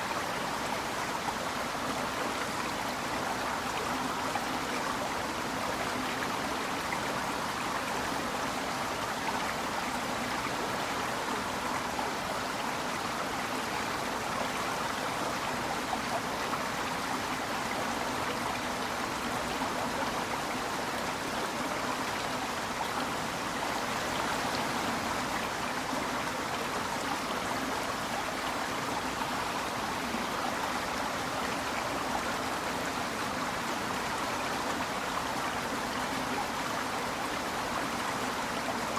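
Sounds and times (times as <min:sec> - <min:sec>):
mountain stream babbling: 0:00.0 - 0:38.9.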